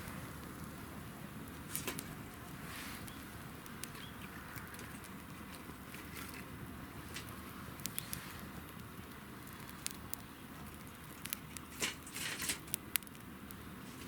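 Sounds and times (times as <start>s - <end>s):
campfire crackling and popping: 0.0s - 13.8s.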